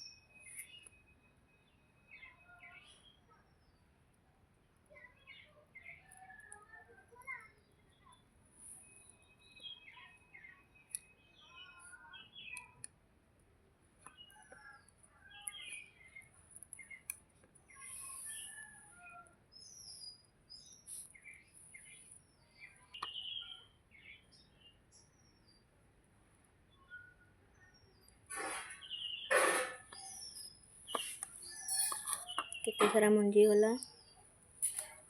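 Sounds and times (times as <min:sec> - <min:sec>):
small birds chirping: 0:00.0 - 0:13.1, 0:13.8 - 0:35.0.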